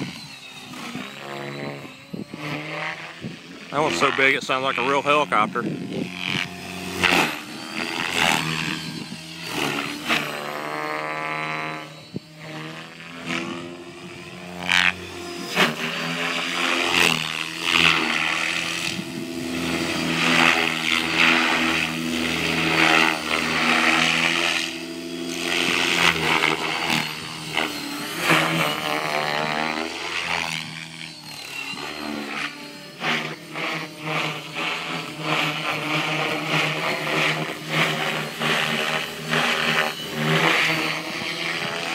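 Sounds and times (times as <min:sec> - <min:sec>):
model helicopter rotor and motor whine: 0:00.0 - 0:41.9.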